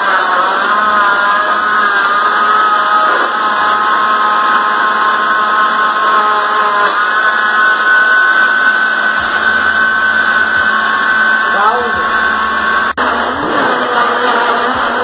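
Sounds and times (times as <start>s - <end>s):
blender motor whining: 0.0s - 15.0s.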